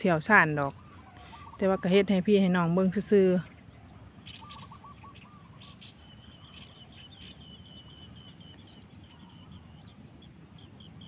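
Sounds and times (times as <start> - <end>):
bird chirping and trilling: 0.0 - 11.0.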